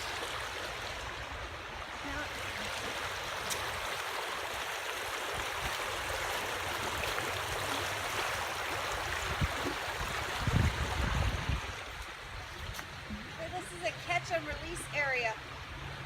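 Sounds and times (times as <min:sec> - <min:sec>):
stream rapids rushing: 0:00.0 - 0:16.0.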